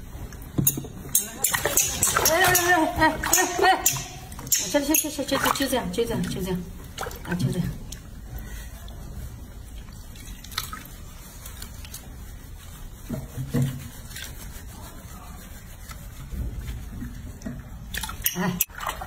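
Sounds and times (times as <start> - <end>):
water dripping: 0.0 - 14.5, 15.8 - 19.0
water splashing in a sink: 0.0 - 19.0.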